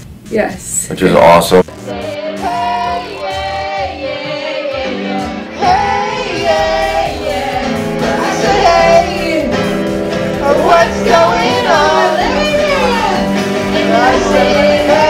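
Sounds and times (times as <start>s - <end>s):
musical accompaniment: 1.2s - 15.0s
person singing: 1.7s - 9.7s, 10.4s - 15.0s.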